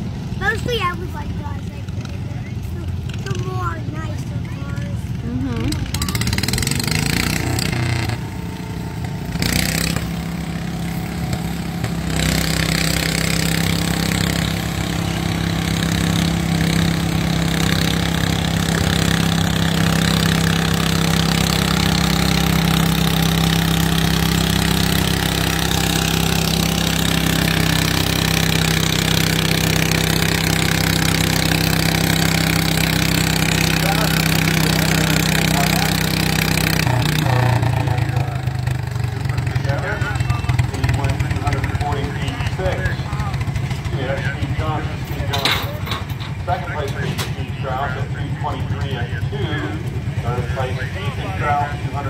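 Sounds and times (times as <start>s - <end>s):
garden tractor engine running: 0.0s - 52.0s.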